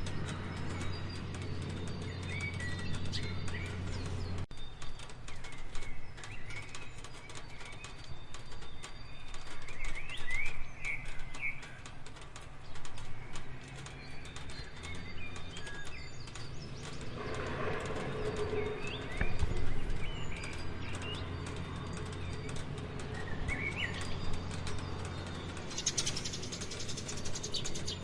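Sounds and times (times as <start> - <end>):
bird chirping: 0.0 - 28.0
raindrops tapping: 0.0 - 28.0.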